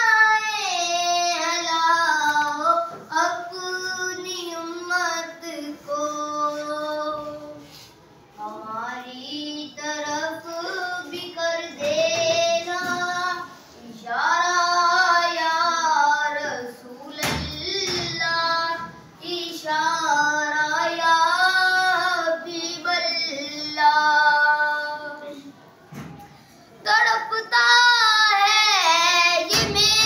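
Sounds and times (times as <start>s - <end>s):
boy singing unaccompanied: 0.0s - 7.7s, 8.3s - 25.6s, 26.8s - 30.0s.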